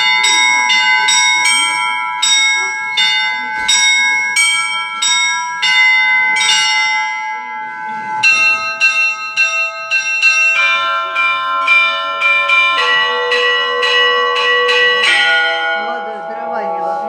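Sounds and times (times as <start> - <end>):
large bell ringing: 0.0 - 17.0
lower bell striking: 0.0 - 17.0
small church bells struck: 0.0 - 17.0.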